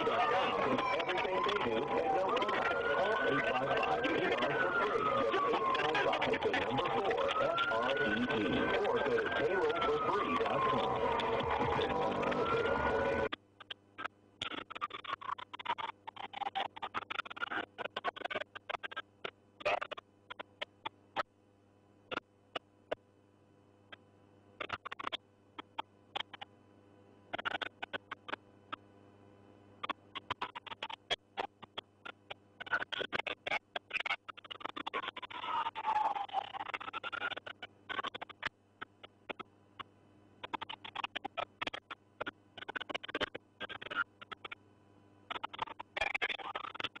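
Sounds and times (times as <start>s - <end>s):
faint steady hum: 0.0s - 47.0s
sharp clicks and crackles: 0.7s - 21.3s, 23.9s - 26.5s, 27.3s - 28.8s, 29.8s - 44.6s, 45.3s - 47.0s.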